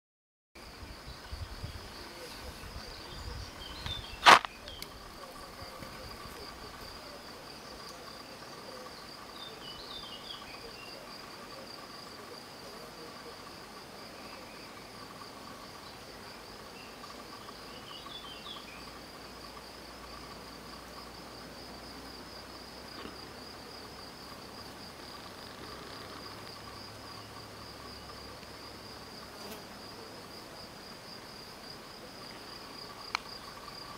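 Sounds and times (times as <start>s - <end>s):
insects trilling: 0.6s - 33.9s.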